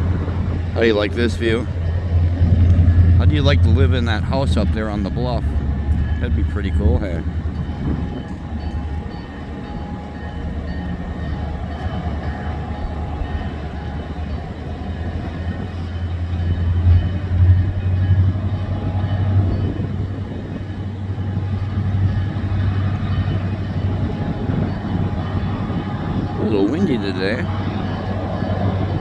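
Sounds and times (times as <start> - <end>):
diesel locomotive rumbling past: 0.0 - 29.0
wind on microphone: 0.0 - 29.0.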